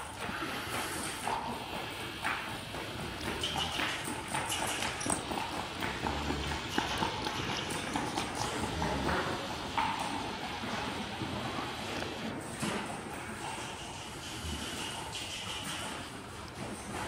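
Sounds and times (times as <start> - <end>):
hoofbeats on dirt floor: 0.0 - 17.0.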